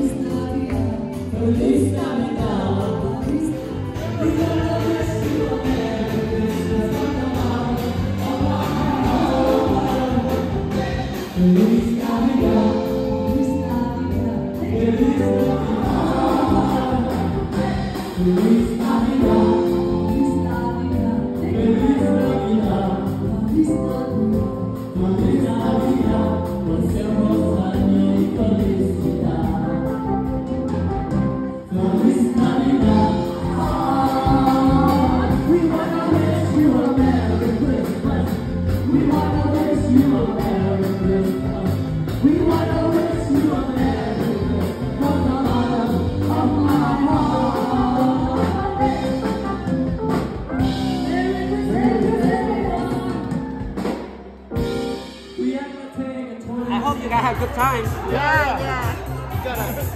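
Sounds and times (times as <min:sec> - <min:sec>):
electric bass guitar: 0:00.0 - 0:55.5
drums: 0:00.0 - 0:59.9
man and woman singing: 0:00.0 - 0:59.9.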